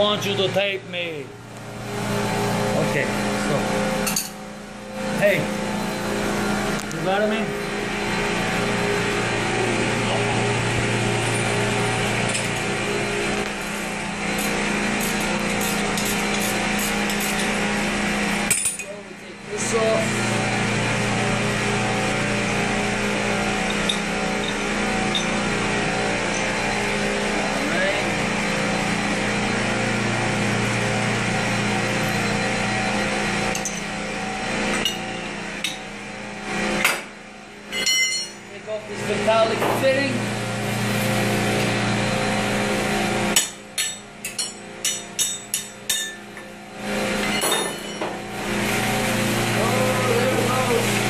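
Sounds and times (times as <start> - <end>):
machinery hum and rush: 0.0 - 51.0.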